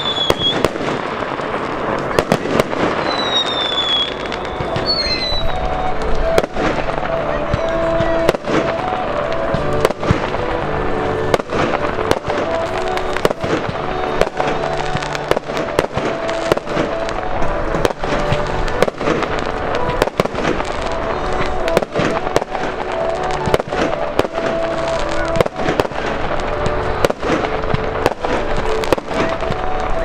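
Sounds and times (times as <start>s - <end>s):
fireworks bangs: 0.0s - 30.0s
fireworks crackle: 0.0s - 30.0s
melodic music: 0.0s - 30.0s.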